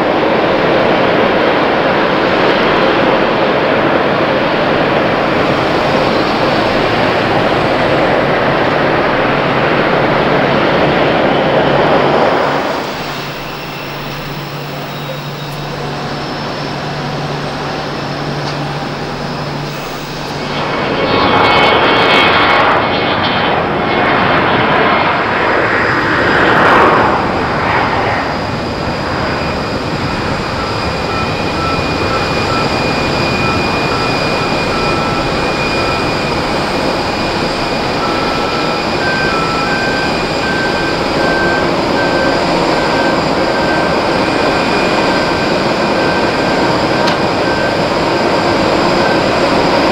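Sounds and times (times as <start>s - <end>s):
jet engines passing: 0.0s - 49.9s.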